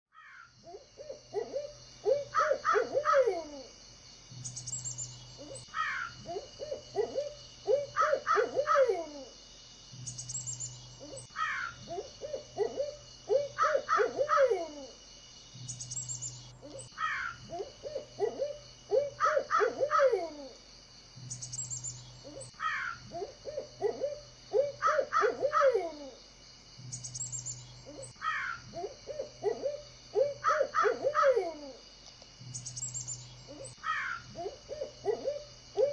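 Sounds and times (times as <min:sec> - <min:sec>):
bird calls: 0:00.2 - 0:03.8, 0:04.4 - 0:09.3, 0:10.0 - 0:20.6, 0:21.2 - 0:26.2, 0:26.9 - 0:31.8, 0:32.5 - 0:35.9.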